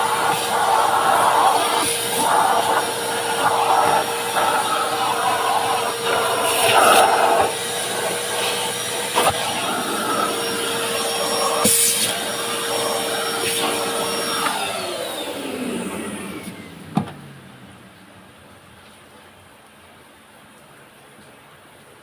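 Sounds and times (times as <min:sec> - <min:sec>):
vacuum motor spinning down: 0:00.0 - 0:18.0
vacuum cleaner whine: 0:00.0 - 0:18.3.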